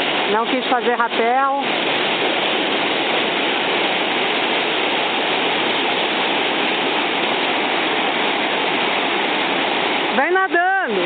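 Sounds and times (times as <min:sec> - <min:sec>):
waterfall crashing into pool: 0:00.0 - 0:11.0.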